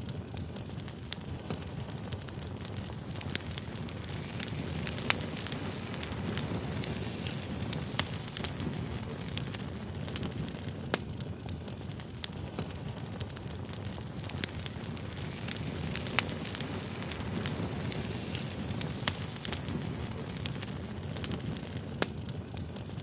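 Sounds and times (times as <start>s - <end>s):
firewood crackling and popping: 0.0s - 23.0s
low rush of flames: 0.0s - 23.0s.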